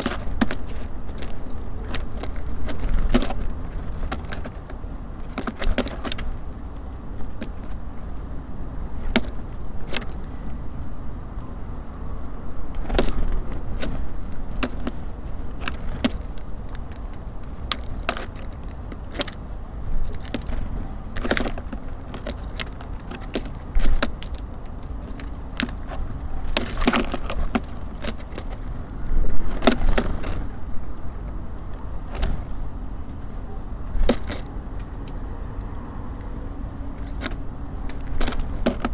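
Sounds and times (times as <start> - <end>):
birds pecking at feeder: 0.0 - 38.9
city traffic rumble: 0.0 - 38.9.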